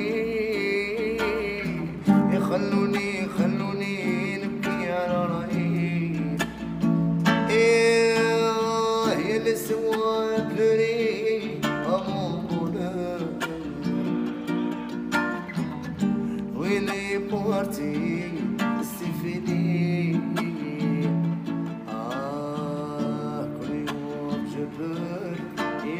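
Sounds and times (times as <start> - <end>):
acoustic guitar: 0.0 - 25.9
man singing with wavering notes: 0.0 - 25.9.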